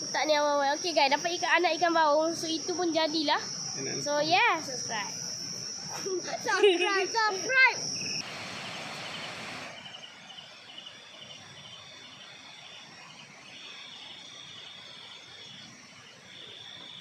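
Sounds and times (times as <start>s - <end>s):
crickets chirping: 0.0s - 17.0s
faint outdoor hiss: 0.0s - 17.0s.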